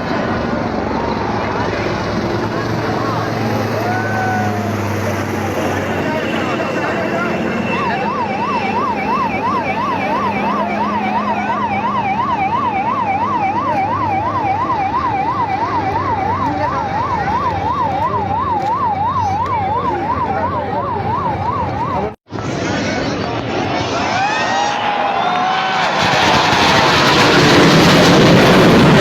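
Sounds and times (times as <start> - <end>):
electronic siren warbling: 0.2 - 29.0.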